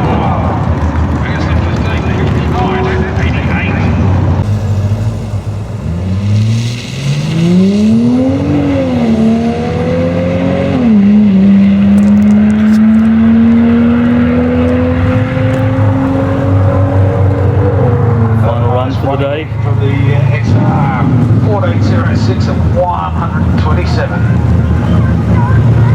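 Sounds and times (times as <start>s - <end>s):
car engine accelerating: 0.0s - 25.9s
transmission shifting up: 0.0s - 25.9s.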